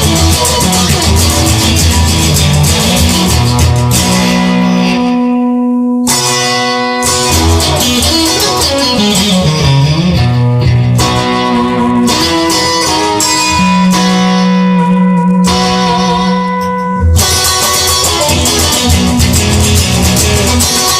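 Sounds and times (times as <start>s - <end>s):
guitar-led music: 0.0s - 20.9s.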